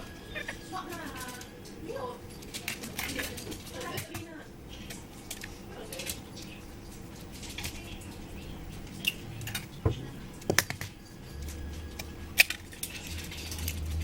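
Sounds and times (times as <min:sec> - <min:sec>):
low steady hum: 0:00.0 - 0:14.0
utensils and containers clicking: 0:00.0 - 0:14.0.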